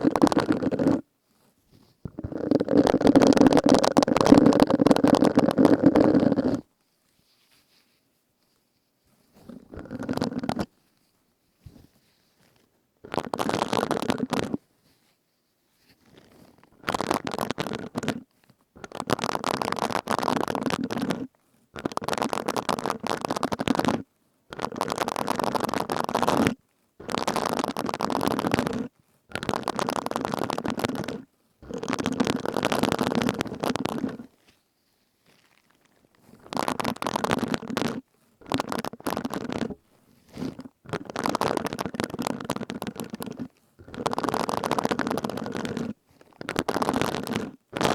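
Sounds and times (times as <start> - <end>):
sponge rubbed and squeezed: 0.0 - 47.9.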